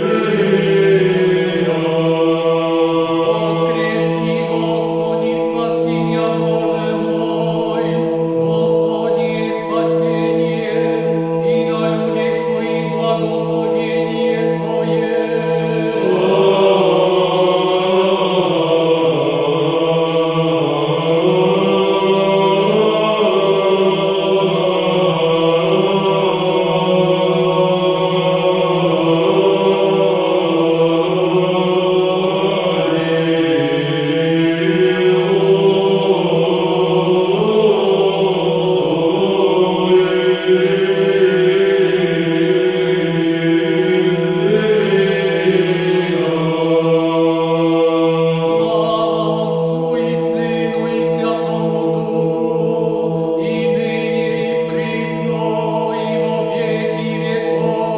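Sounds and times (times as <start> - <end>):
choir chanting: 0.0 - 57.9.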